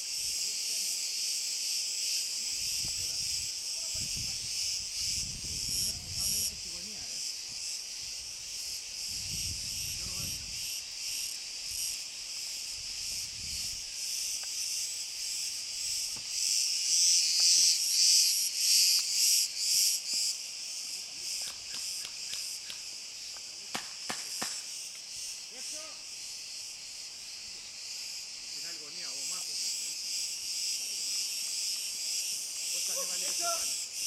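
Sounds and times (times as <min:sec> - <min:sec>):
cicadas singing: 0:00.0 - 0:34.0.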